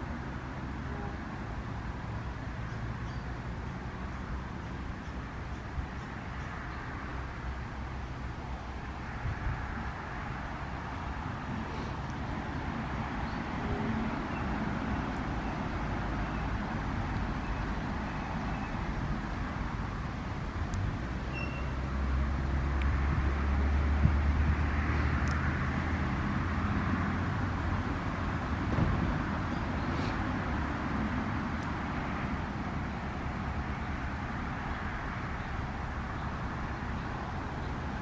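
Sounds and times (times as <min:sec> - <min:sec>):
steady outdoor hiss: 0:00.0 - 0:38.0
wind rumble on microphone: 0:01.4 - 0:38.0.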